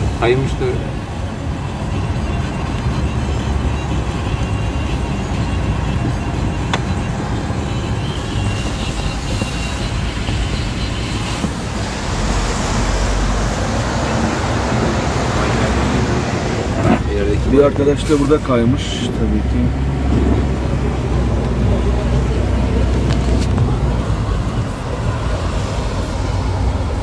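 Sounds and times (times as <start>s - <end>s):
engine and tyre rumble on wet road: 0.0s - 27.0s.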